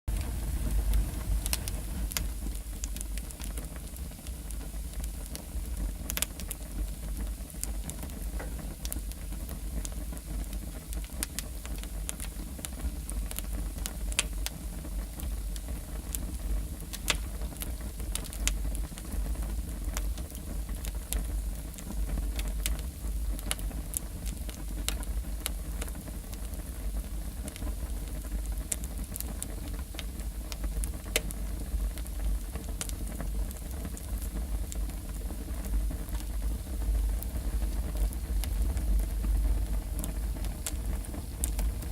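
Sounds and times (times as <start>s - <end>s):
wood fire crackling and popping: 0.1s - 41.9s.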